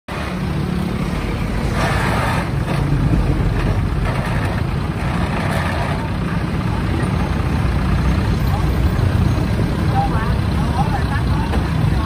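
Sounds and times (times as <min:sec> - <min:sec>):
tractor engine running: 0:00.1 - 0:12.0.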